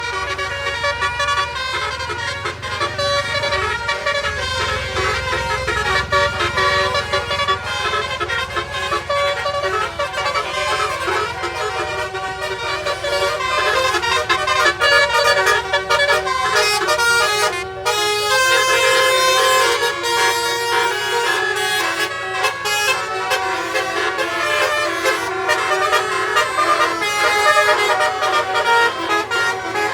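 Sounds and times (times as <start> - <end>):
low engine rumble: 0.0 - 29.9
multi-tone bus horn melody: 0.0 - 29.9.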